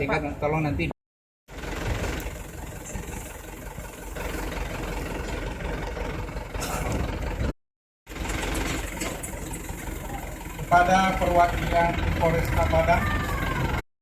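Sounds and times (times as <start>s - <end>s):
engine running with low rumble: 1.5s - 13.8s.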